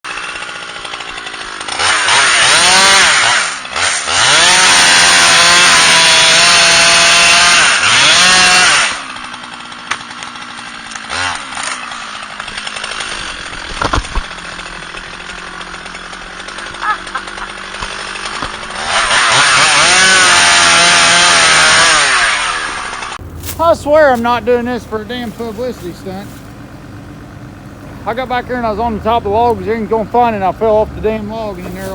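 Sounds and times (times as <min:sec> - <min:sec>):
chainsaw revving and idling: 0:00.0 - 0:31.9.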